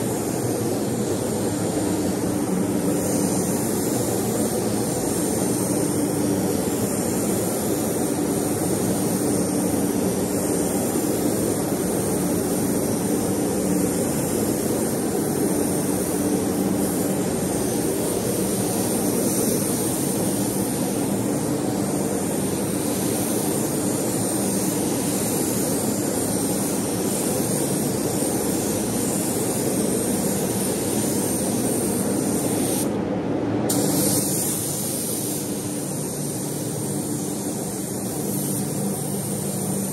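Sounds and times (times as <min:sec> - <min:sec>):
paint sprayer rushing air: 0:00.0 - 0:33.0, 0:33.7 - 0:39.9.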